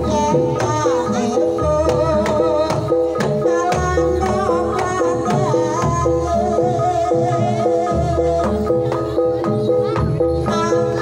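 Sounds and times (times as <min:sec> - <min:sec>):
woman singing: 0:00.0 - 0:08.9, 0:10.4 - 0:11.0
gamelan keyed percussion: 0:00.0 - 0:11.0.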